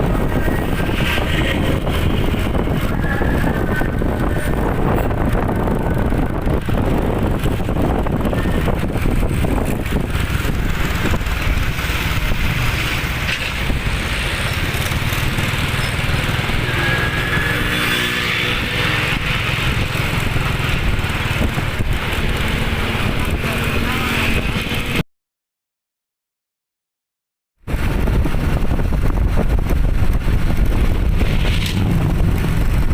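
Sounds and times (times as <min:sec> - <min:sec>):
road noise: 0:00.0 - 0:25.0, 0:27.6 - 0:32.9
truck engine: 0:00.0 - 0:25.0, 0:27.7 - 0:32.9.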